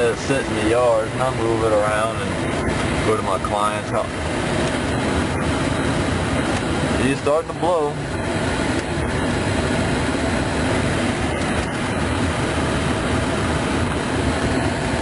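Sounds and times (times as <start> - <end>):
heater blower pushing air: 0.0 - 15.0
truck engine idling: 0.0 - 15.0.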